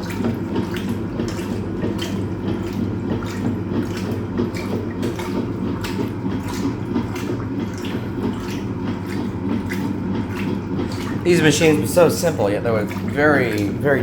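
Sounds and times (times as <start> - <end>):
washing machine motor hum: 0.0 - 14.0
water sloshing in washing machine: 0.0 - 14.0.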